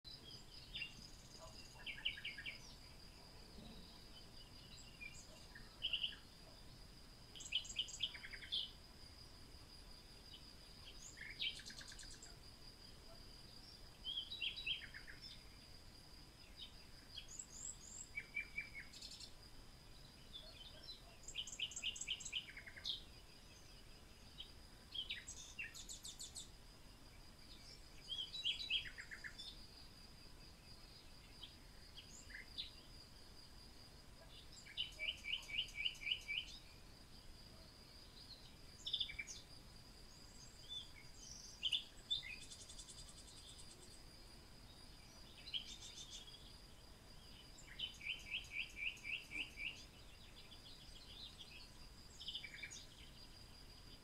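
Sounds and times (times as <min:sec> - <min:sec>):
small birds chirping and trilling: 0:00.1 - 0:54.0.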